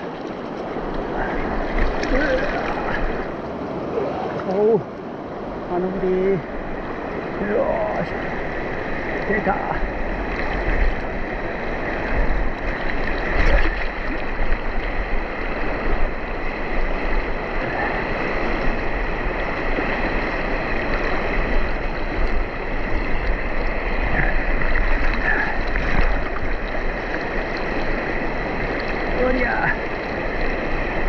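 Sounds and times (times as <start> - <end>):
river water rushing over rocks: 0.0 - 31.0.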